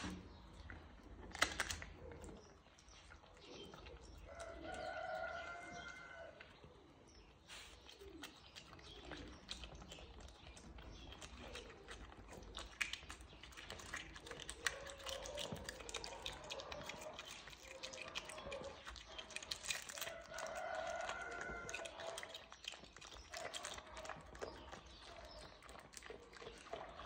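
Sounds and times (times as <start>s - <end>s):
animal gnawing and licking eggshell: 0.0s - 6.8s, 7.5s - 27.0s.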